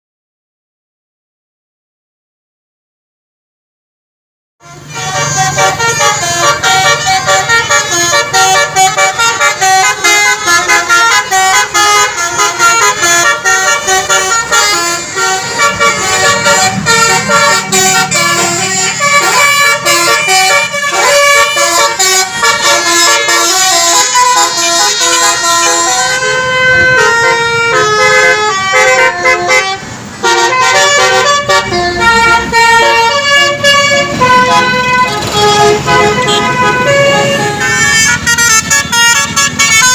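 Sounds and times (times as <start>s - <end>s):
multi-tone bus horn melody: 4.6s - 39.9s.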